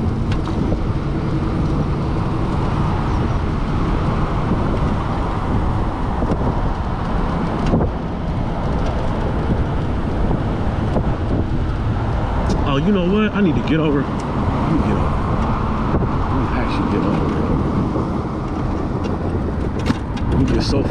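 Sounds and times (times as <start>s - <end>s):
road and traffic noise: 0.0s - 20.9s.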